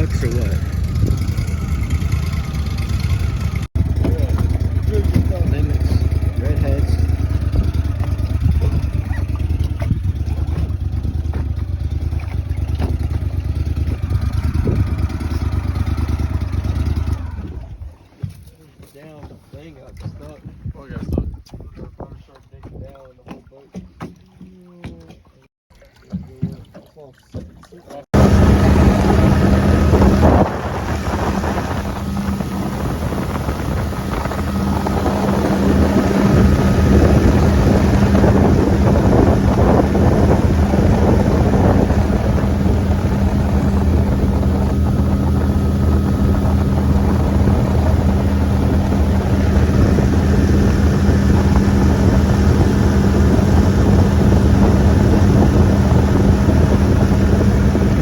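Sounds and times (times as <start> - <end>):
wind on microphone: 0.0 - 18.3, 19.2 - 23.3, 28.1 - 58.0
mud motor running: 0.0 - 58.0.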